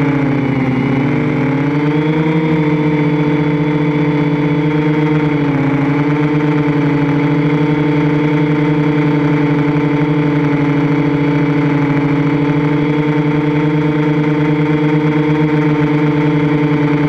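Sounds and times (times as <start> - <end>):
drone motors humming: 0.0 - 17.0.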